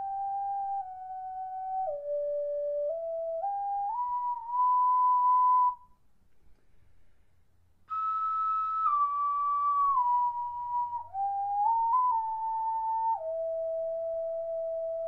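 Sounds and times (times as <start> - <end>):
slow flute-like melody: 0.0 - 6.0, 7.9 - 15.0.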